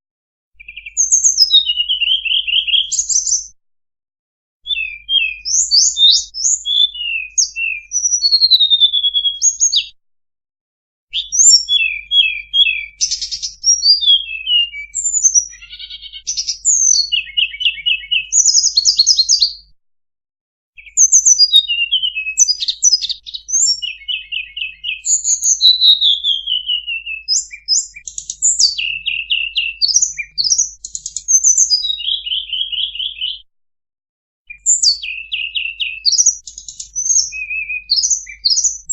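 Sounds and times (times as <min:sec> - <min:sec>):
songbird song: 0:00.6 - 0:03.6, 0:04.7 - 0:10.0, 0:11.1 - 0:19.7, 0:20.8 - 0:33.5, 0:34.5 - 0:38.9.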